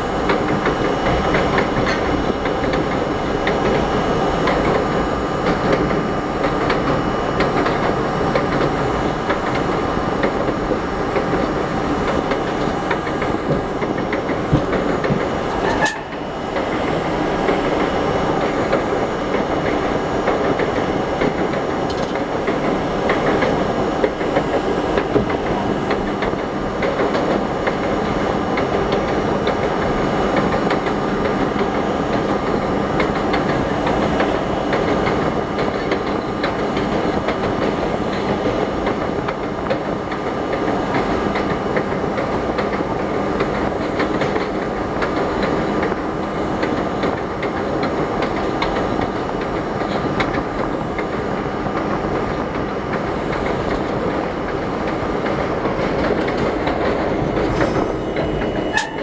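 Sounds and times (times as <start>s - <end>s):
clickety-clack over rail joints: 0.0s - 59.0s
train wheels rumbling on rails: 0.0s - 59.0s.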